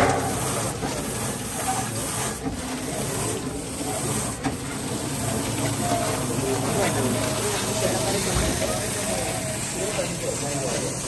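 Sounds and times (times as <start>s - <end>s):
luggage wrapping machine running: 0.0s - 11.0s.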